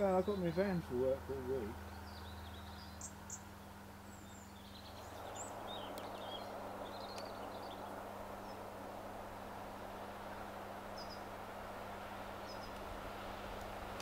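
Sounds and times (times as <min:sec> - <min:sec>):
faint outdoor background noise: 0:00.0 - 0:14.0
small birds chirping: 0:00.0 - 0:14.0.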